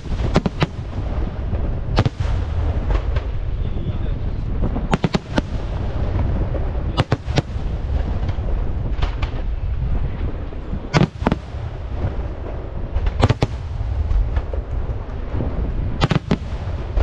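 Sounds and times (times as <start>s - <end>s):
fireworks bursting bangs: 0.0s - 17.0s
low rumble: 0.0s - 17.0s.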